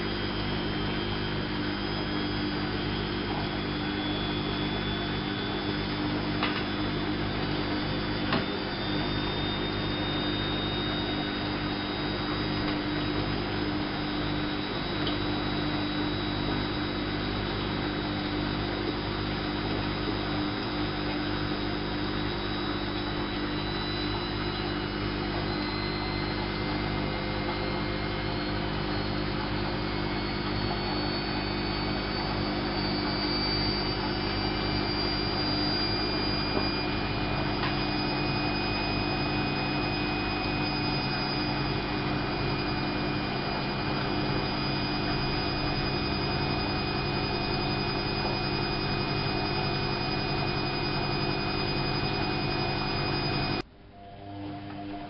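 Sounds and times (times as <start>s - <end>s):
faint high whine: 0.0s - 55.0s
washing machine motor hum: 0.0s - 55.0s.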